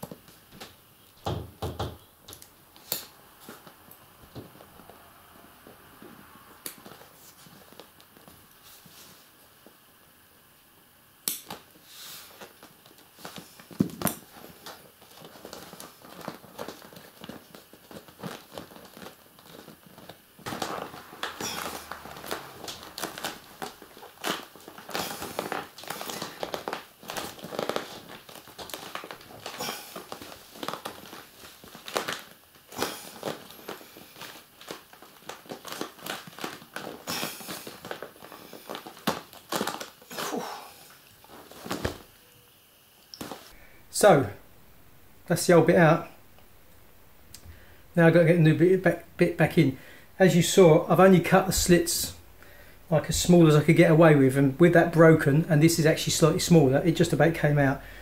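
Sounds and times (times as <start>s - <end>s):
pvc fabric crinkling and rubbing: 2.3s - 9.8s, 11.4s - 42.4s, 43.1s - 57.8s.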